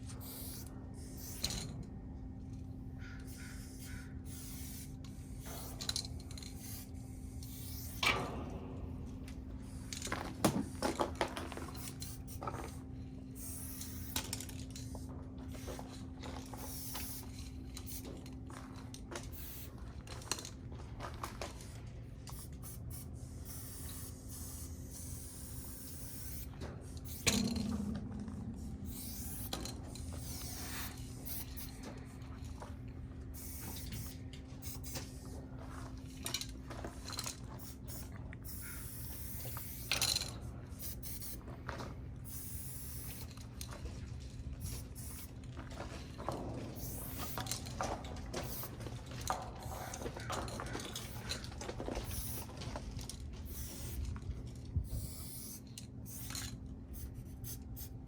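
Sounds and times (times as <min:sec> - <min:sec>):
steady low hum: 0:00.0 - 0:58.0
spray paint cans hissing: 0:00.2 - 0:01.7, 0:03.3 - 0:08.0, 0:09.6 - 0:18.2, 0:18.9 - 0:20.6, 0:21.4 - 0:41.4, 0:42.2 - 0:54.2, 0:54.8 - 0:58.0.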